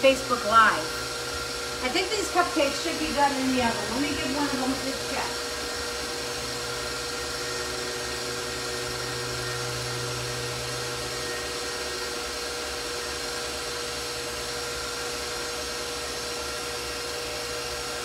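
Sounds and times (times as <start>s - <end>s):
stand mixer motor humming: 0.0s - 18.0s.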